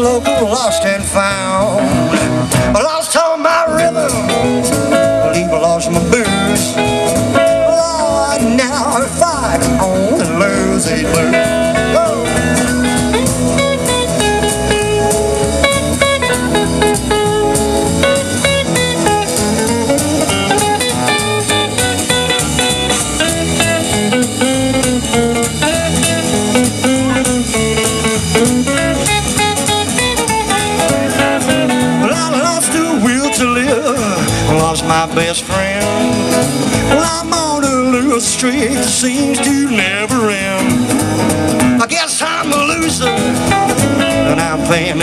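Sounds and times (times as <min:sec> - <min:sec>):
lead guitar: 0:00.0 - 0:45.0
rockabilly band playing: 0:00.0 - 0:45.0.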